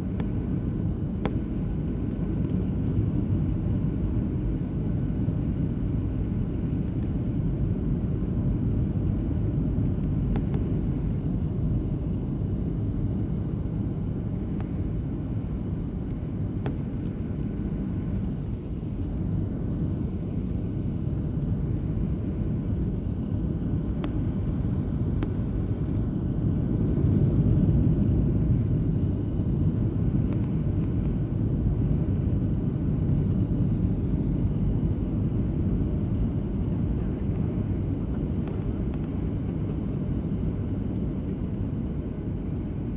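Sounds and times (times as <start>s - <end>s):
airliner engine and airflow rumble: 0.0s - 42.9s.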